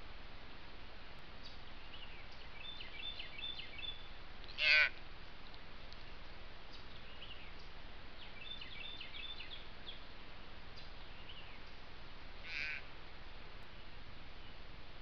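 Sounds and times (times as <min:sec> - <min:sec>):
steady background hiss: 0:00.0 - 0:15.0
wild birds chirping: 0:01.4 - 0:14.8.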